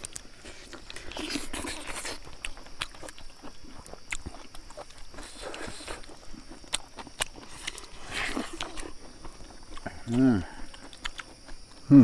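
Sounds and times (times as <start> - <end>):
chewing and lip-smacking: 0.0 - 12.0
steady high hiss: 0.0 - 12.0.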